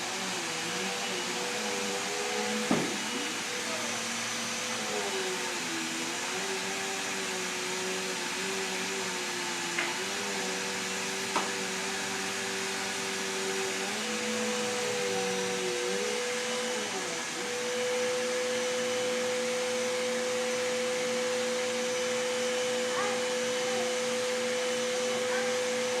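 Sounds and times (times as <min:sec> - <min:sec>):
vacuum cleaner motor running: 0:00.0 - 0:26.0.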